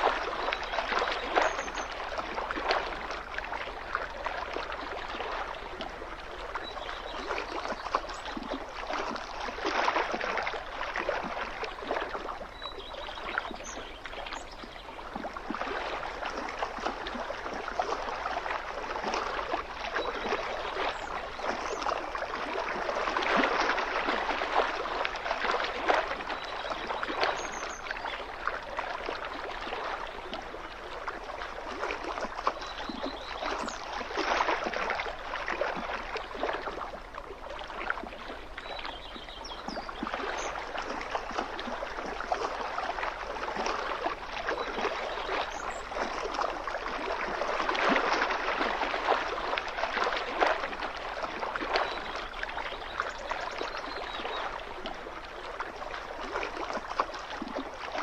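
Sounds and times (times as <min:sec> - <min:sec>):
water lapping against shore: 0:00.0 - 0:58.0.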